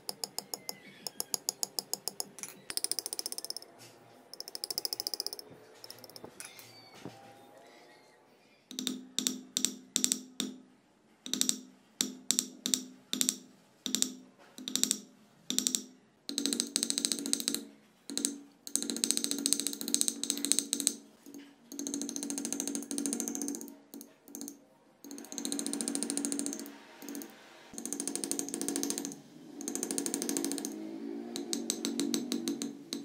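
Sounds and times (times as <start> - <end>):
chasing tool tapping on silver: 0.0 - 3.7, 4.3 - 6.6, 8.7 - 30.8, 31.4 - 33.0.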